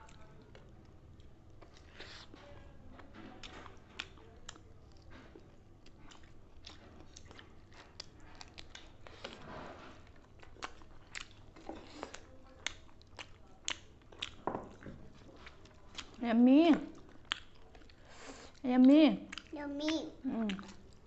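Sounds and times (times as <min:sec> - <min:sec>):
people chewing and biting food: 0:00.0 - 0:16.2, 0:16.9 - 0:18.6, 0:19.3 - 0:19.6, 0:20.2 - 0:21.0.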